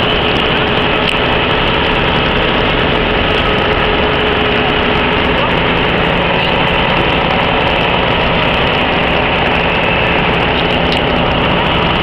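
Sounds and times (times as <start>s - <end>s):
pump engine running: 0.0s - 12.0s.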